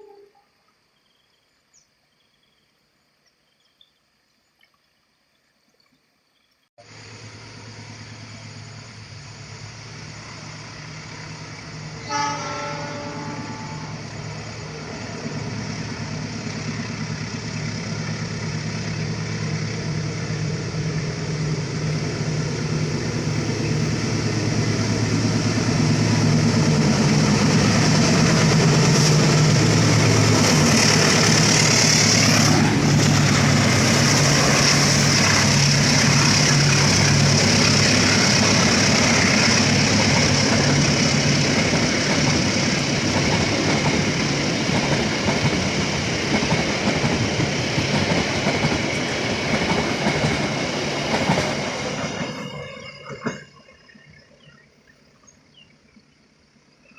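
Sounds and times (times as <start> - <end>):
wheels hissing on rails: 6.8 - 56.7
diesel locomotive engine drone: 6.8 - 56.9.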